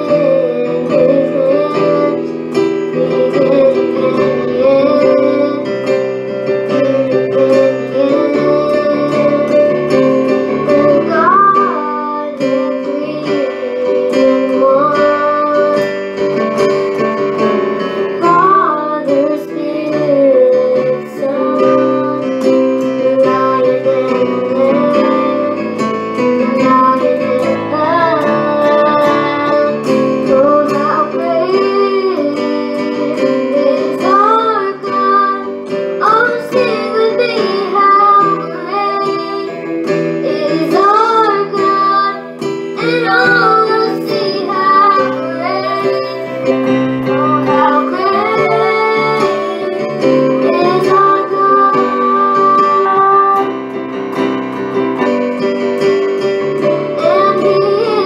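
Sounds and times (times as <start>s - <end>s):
girl singing into a microphone: 0.0s - 54.4s, 56.5s - 58.0s
instrumental accompaniment: 0.0s - 58.0s.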